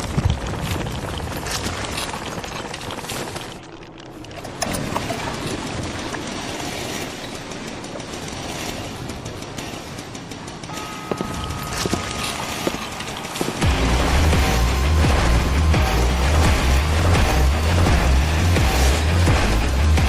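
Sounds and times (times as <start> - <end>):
mechanical rattling and grinding: 0.0 - 20.0.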